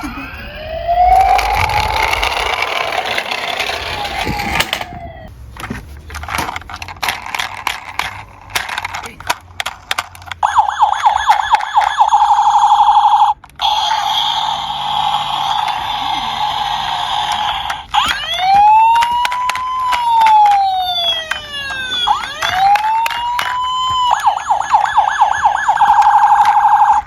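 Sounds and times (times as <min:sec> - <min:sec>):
police siren: 0:00.0 - 0:05.3, 0:10.2 - 0:27.0.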